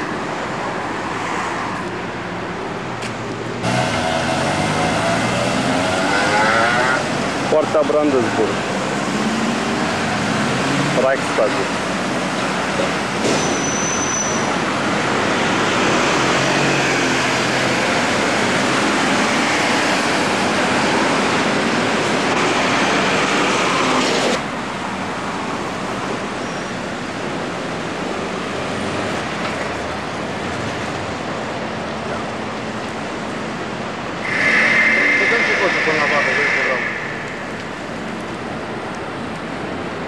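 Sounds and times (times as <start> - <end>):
car road and traffic noise: 0.0 - 40.0.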